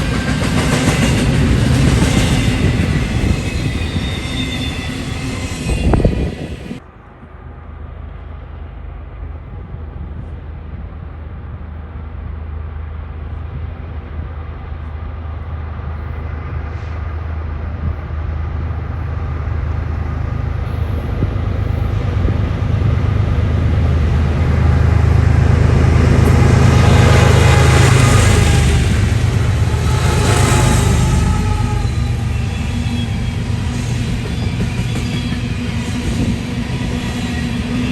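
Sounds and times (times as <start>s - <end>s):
diesel locomotive engines droning: 0.0s - 37.9s.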